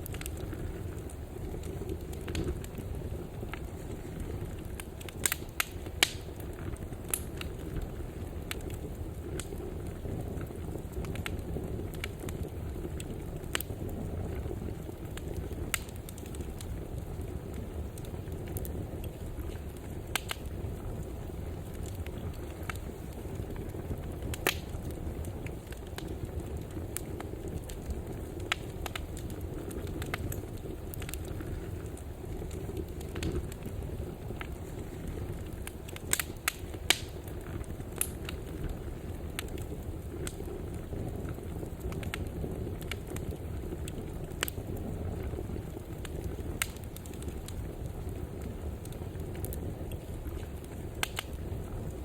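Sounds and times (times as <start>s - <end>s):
fire crackling and popping: 0.0s - 52.0s
fire rumbling in fireplace: 0.0s - 52.0s.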